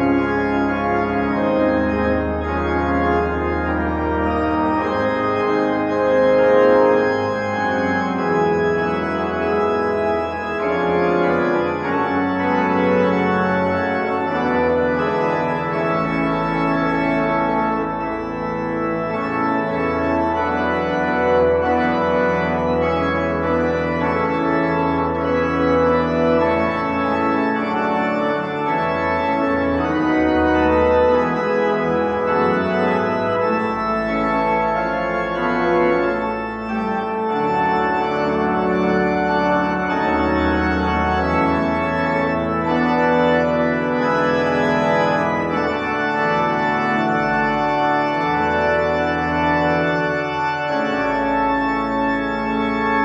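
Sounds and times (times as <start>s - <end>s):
church organ playing chords: 0.0s - 53.0s.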